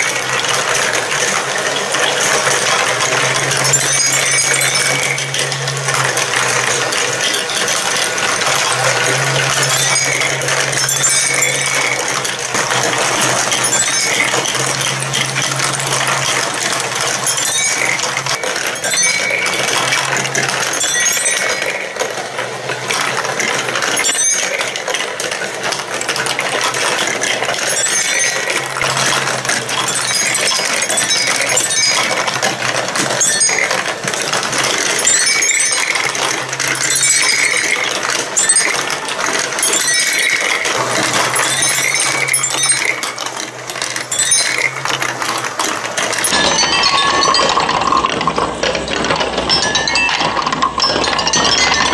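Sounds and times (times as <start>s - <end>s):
lift motor hum: 0.0s - 51.9s
plastic balls clattering: 0.0s - 51.9s.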